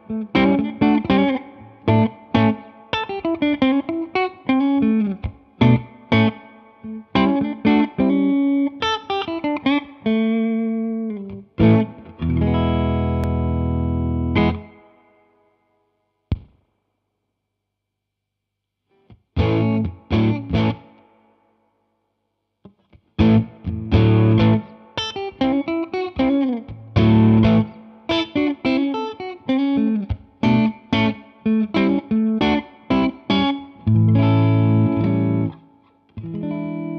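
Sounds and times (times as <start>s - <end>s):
overdriven electric guitar: 0.0s - 15.5s, 18.9s - 21.3s, 22.6s - 36.9s.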